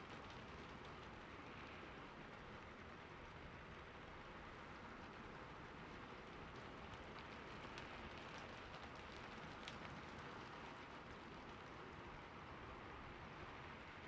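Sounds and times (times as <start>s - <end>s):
rain on a roof: 0.0s - 14.0s.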